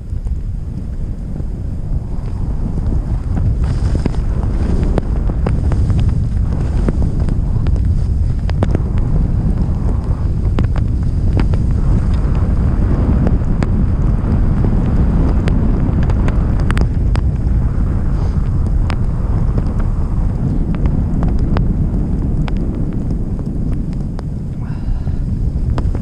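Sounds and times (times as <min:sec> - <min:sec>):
blizzard wind buffeting microphone: 0:00.0 - 0:26.0.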